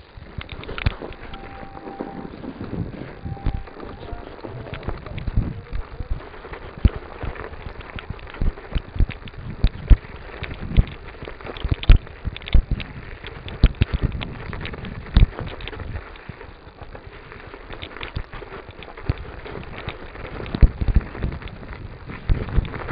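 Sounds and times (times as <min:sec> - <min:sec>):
bicycle knocking and rattling: 0:00.0 - 0:01.4, 0:05.1 - 0:22.9.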